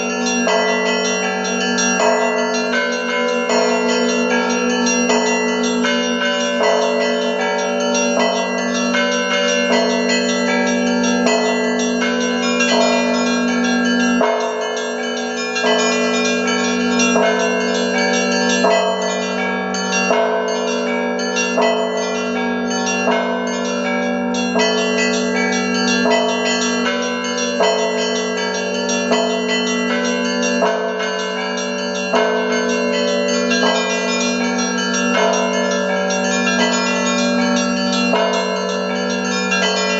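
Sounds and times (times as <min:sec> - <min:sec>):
large bells ringing: 0:00.0 - 0:39.9.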